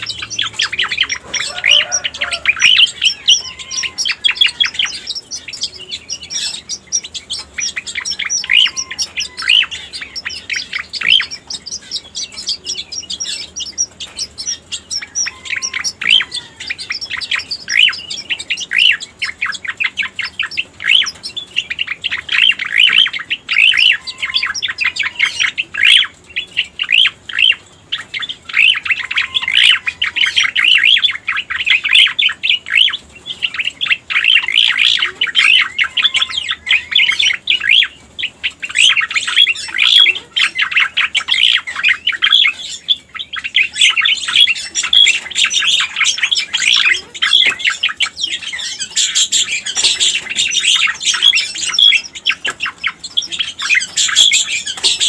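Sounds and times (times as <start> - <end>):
bird chirps and trills: 0.0 - 55.0.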